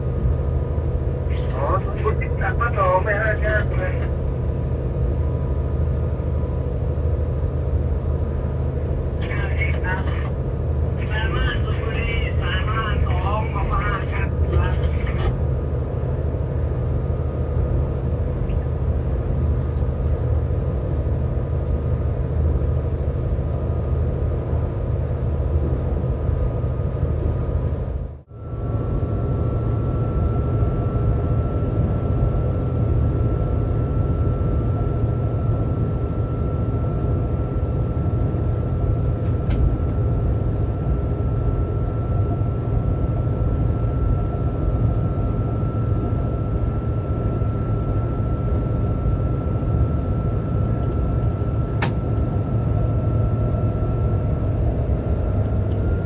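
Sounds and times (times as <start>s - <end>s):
train engine and wheel rumble: 0.0s - 56.0s.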